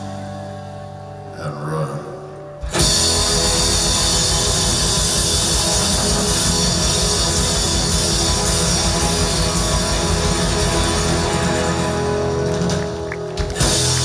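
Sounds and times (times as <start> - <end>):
rock band playing: 2.5 - 14.0.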